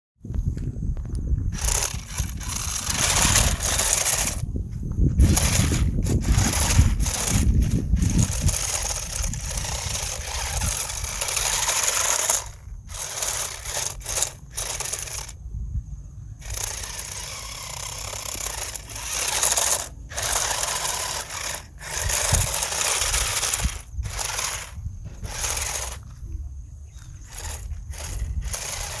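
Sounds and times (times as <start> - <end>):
toy wheels scraping over ground: 1.0 - 15.4, 16.4 - 26.3, 26.9 - 29.0
small electric motor running: 1.5 - 15.4, 16.4 - 26.2, 26.9 - 29.0.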